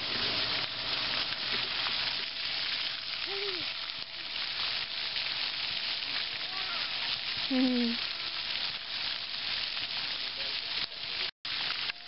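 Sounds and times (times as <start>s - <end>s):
fountain jets spraying water: 0.0s - 12.0s.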